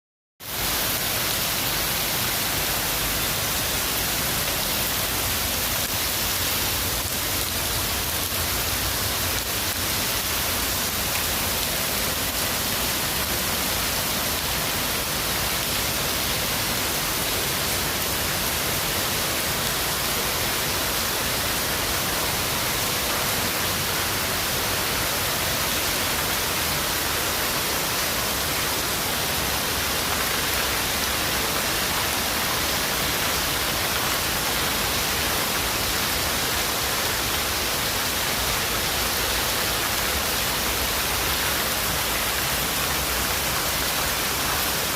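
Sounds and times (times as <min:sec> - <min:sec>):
heavy rain downpour: 0:00.4 - 0:44.9.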